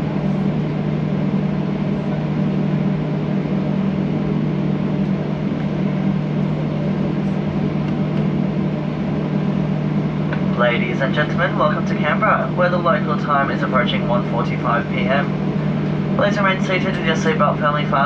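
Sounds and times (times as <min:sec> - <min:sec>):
aircraft cabin engine drone: 0:00.0 - 0:18.0
low hum: 0:00.0 - 0:18.0.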